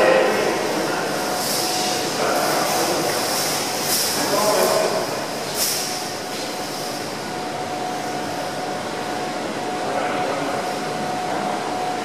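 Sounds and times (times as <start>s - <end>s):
aquarium hall ambience: 0.0s - 12.0s
faint continuous hum: 0.0s - 12.0s.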